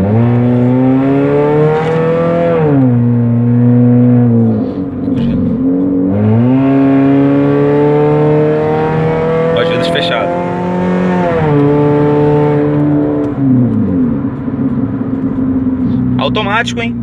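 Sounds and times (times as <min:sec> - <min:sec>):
car engine and exhaust accelerating: 0:00.0 - 0:17.0.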